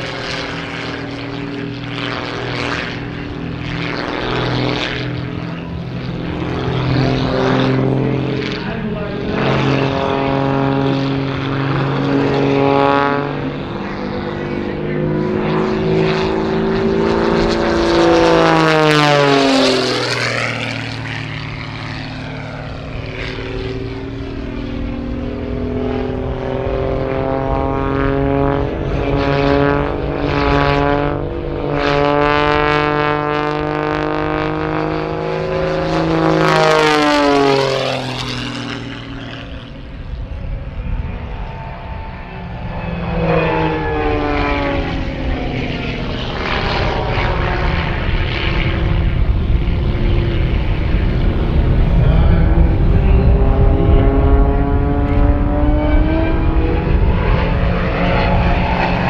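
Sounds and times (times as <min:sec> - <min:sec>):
propeller plane engine: 0:00.0 - 0:59.0.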